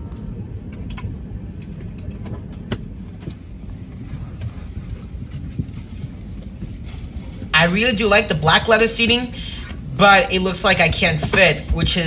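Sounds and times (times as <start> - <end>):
low rumble inside aircraft cabin: 0.0 - 12.0.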